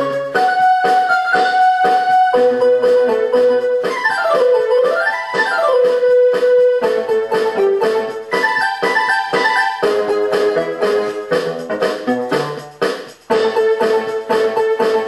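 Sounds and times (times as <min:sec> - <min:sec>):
keyboard instrumental music: 0:00.0 - 0:15.0.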